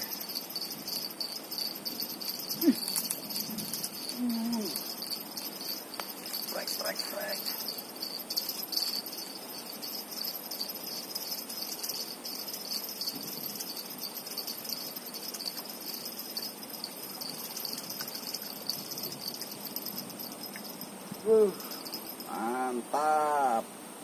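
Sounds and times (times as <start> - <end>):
crickets trilling: 0.0 - 23.7
low background hiss: 0.0 - 24.0.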